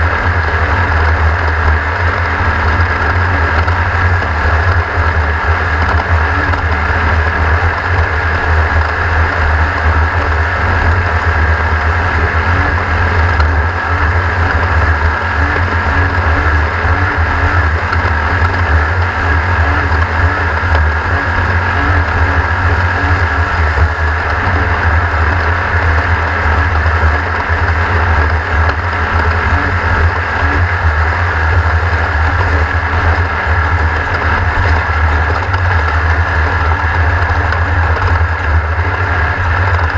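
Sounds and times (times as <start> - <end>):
race car engine rumbling: 0.0 - 39.9.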